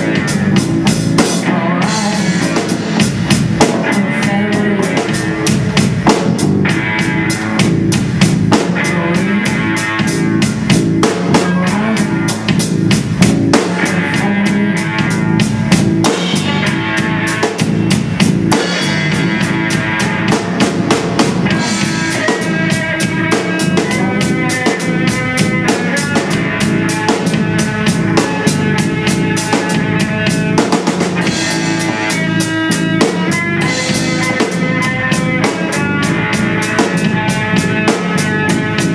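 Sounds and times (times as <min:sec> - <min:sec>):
band music: 0:00.0 - 0:38.9
drum kit fast beat: 0:00.0 - 0:38.9.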